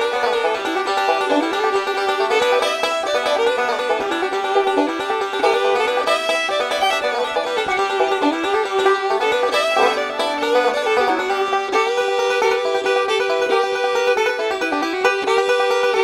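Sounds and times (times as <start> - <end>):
plucked string instrumental music: 0.0 - 16.0.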